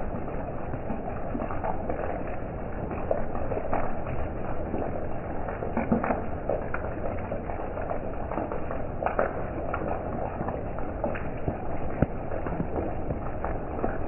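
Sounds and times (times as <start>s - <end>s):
raindrops tapping a surface: 0.0s - 14.0s
steady rain falling: 0.0s - 14.0s.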